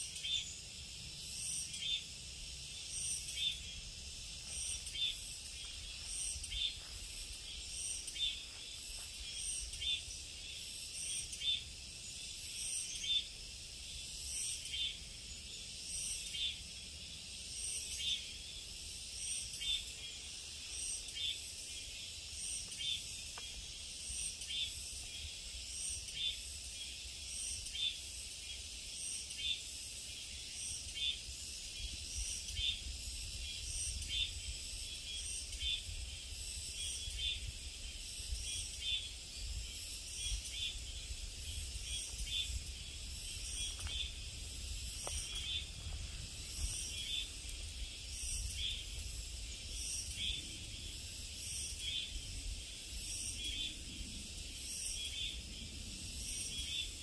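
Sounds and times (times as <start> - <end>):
insects buzzing: 0.0 - 57.0
pulsing insect call: 0.0 - 57.0.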